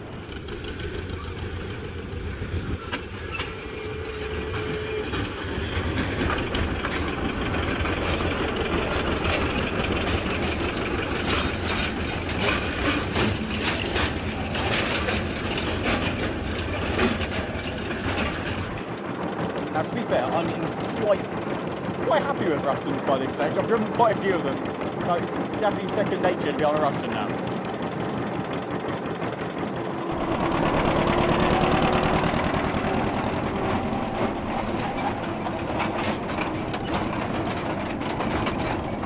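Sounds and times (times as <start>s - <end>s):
diesel locomotive engine drone: 0.0s - 39.0s
metallic rattling and clanking: 0.1s - 39.0s.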